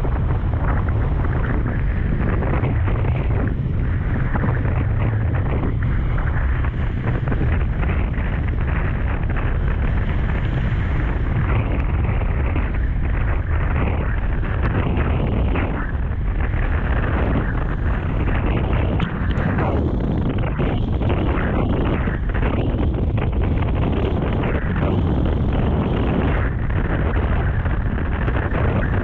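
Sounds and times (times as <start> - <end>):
rough surf: 0.0 - 29.0
wind buffeting microphone: 0.0 - 29.0.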